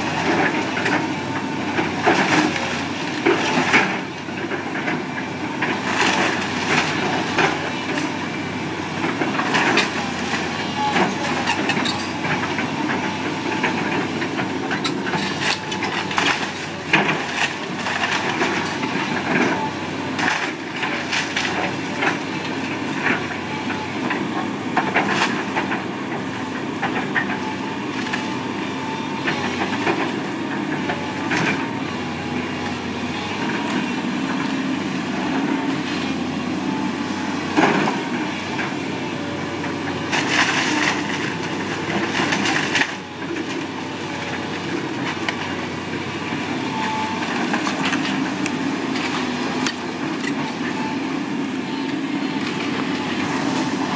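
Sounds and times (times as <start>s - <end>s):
heavy machine engine running: 0.0s - 53.9s.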